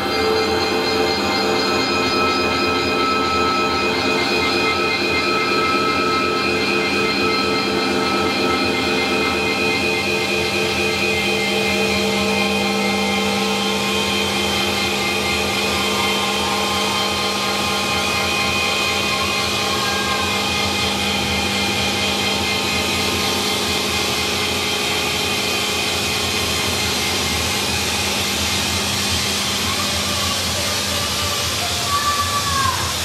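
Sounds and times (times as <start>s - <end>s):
drone music: 0.0s - 32.2s.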